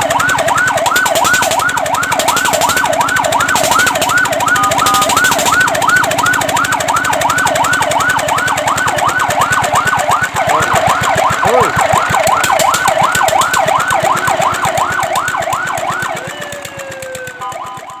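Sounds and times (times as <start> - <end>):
fire truck siren yelp: 0.0 - 18.0
siren tone sliding downward: 0.0 - 18.0.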